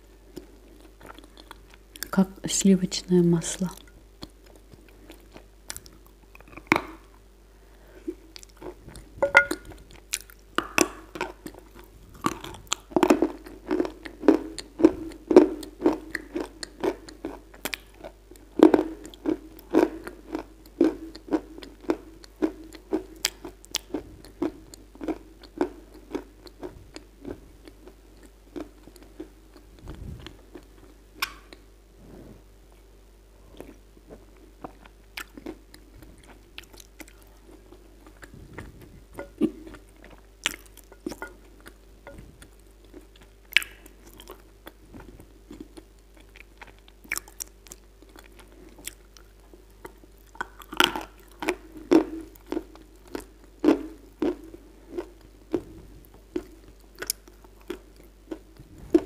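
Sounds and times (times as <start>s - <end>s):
crunchy chewing of clay: 8.0s - 31.6s, 32.7s - 59.0s.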